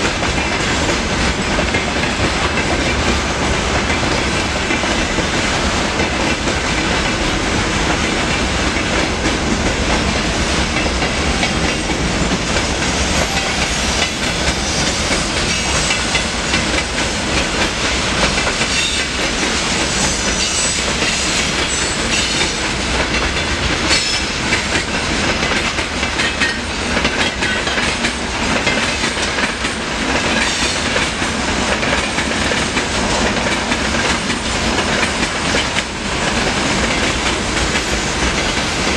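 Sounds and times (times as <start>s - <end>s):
freight train wheels rumbling: 0.0s - 38.9s
wheels clicking over rail joints: 0.0s - 38.9s.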